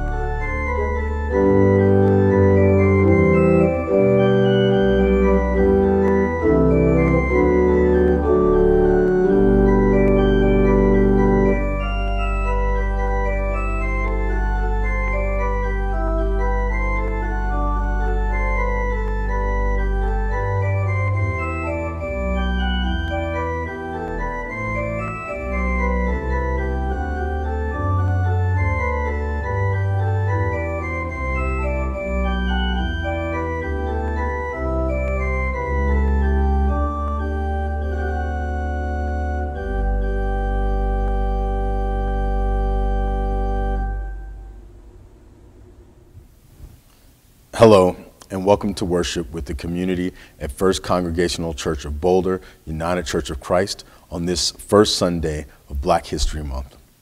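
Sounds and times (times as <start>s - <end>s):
organ playing chords: 0.0s - 56.8s.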